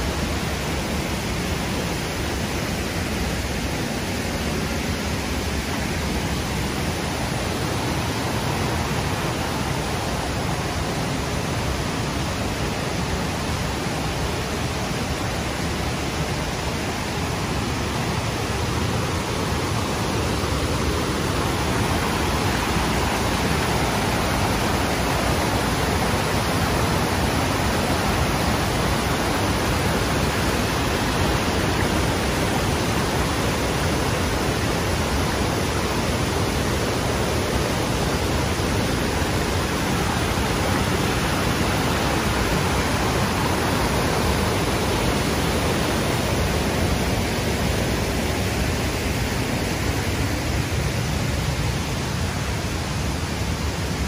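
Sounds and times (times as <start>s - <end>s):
river water rushing over weir: 0.0s - 54.0s.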